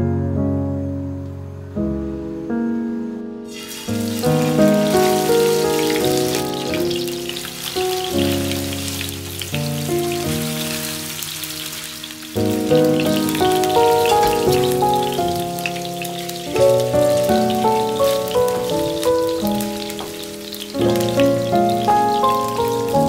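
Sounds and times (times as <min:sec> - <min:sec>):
background music with held notes: 0:00.0 - 0:23.0
fish sizzling in frying pan: 0:03.5 - 0:23.0.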